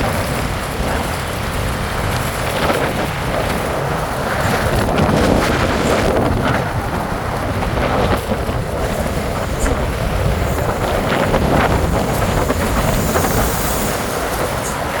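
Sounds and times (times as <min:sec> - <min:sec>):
road and vehicle noise: 0:00.0 - 0:15.0
wind buffeting microphone: 0:00.0 - 0:15.0.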